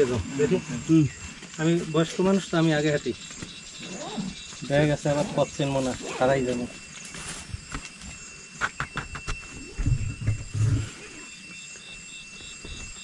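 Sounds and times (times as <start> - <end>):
insect high thin whine: 0.0 - 13.0
insect pulsing chirp: 0.0 - 13.0.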